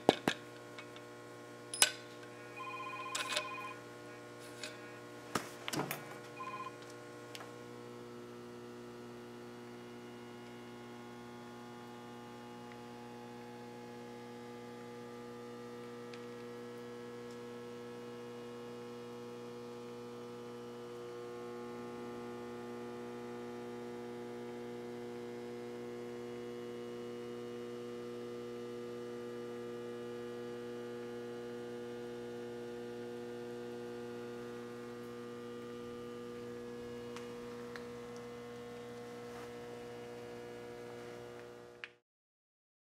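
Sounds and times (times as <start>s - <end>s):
electrical mains hum: 0.0s - 42.0s.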